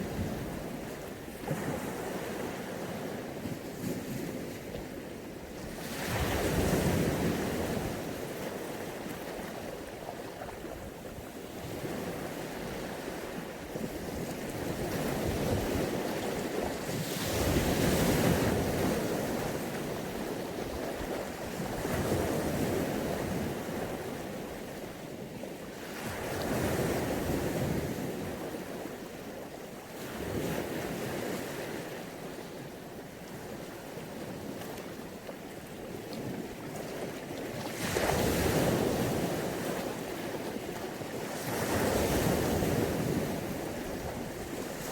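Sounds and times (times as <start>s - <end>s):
waves washing onto shore: 0.0s - 44.9s.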